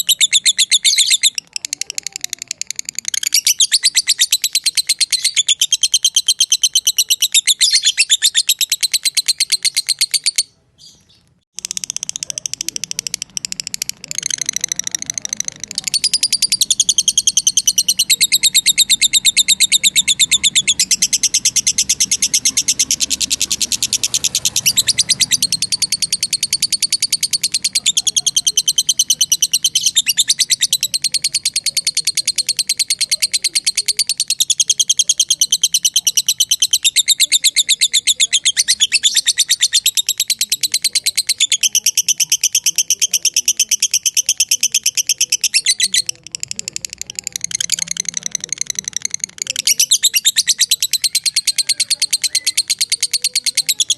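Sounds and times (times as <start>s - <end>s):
lovebird chattering: 0.0s - 53.9s.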